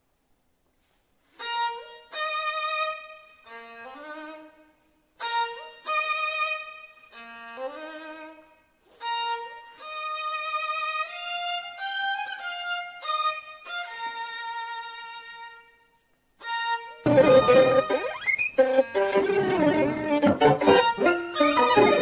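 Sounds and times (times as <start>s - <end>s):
solo violin: 1.2s - 22.0s.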